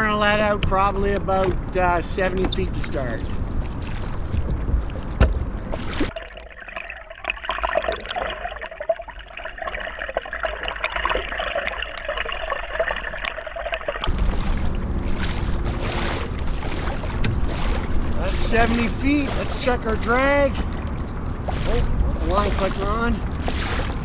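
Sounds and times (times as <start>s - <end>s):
water splashing around kayak: 0.0s - 24.0s
wind: 0.0s - 24.0s
underwater water gurgling: 2.8s - 24.0s.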